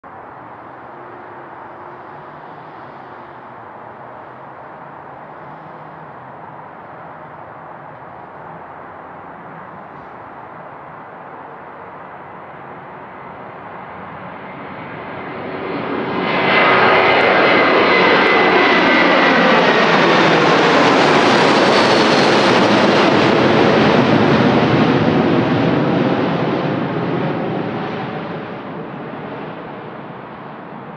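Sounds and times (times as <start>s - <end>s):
jet engine whine: 0.0s - 30.9s
jet plane taking off overhead: 0.0s - 30.9s.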